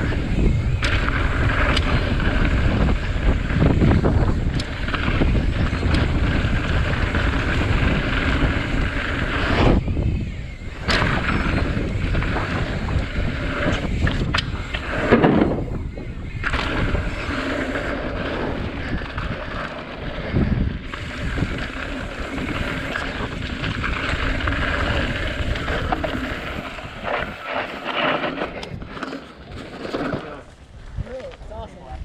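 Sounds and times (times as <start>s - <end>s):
bike clattering over bumps: 0.0s - 30.6s
wind on microphone: 0.0s - 32.0s.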